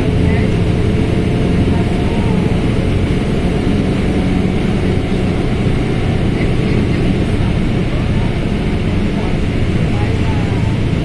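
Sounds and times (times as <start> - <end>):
diesel bus engine droning: 0.0 - 11.0.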